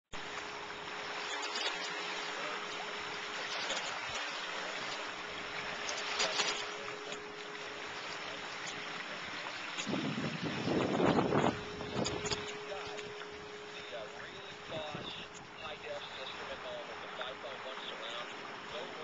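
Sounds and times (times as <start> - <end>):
wind: 0.1 - 19.0
faint steady hum: 0.2 - 19.0
waves lapping at shore: 0.2 - 19.0.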